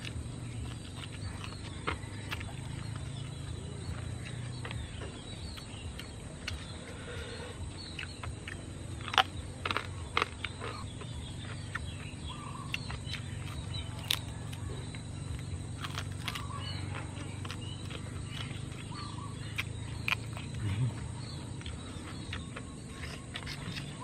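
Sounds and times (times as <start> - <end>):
faint bird chirps: 0.0 - 24.0
man chewing and lip-smacking: 0.0 - 24.0.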